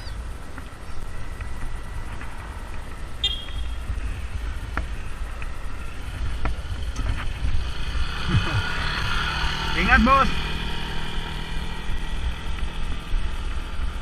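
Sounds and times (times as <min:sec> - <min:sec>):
road rumble: 0:00.0 - 0:14.0
steady hum: 0:00.0 - 0:14.0
wind noise: 0:00.0 - 0:14.0.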